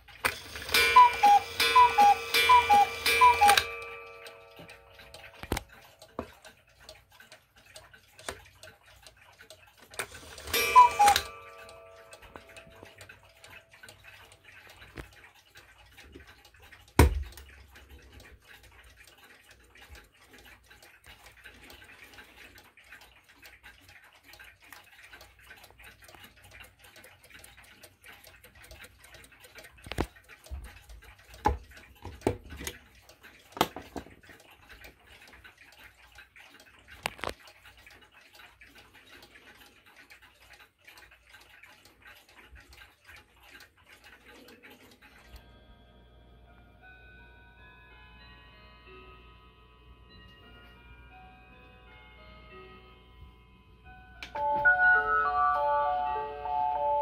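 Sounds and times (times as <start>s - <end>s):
wall clocks ticking: 0.0s - 57.0s.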